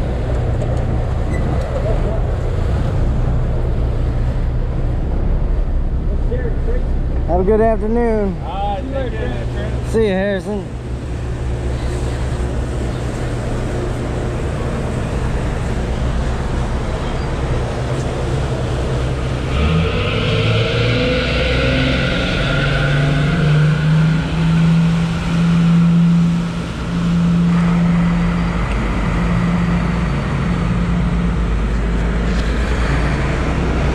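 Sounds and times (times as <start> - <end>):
boat diesel engines revving: 0.0 - 33.9.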